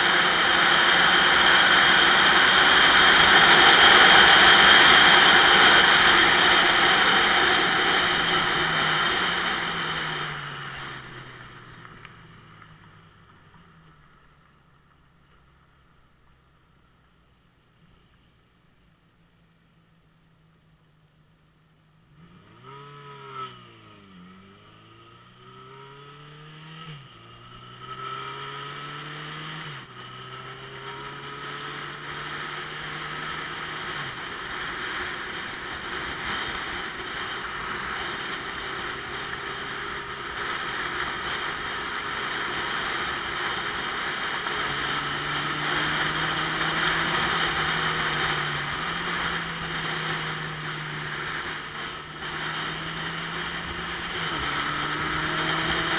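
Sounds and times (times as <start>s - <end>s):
motorcycle engine accelerating: 0.0s - 16.4s, 22.0s - 55.9s.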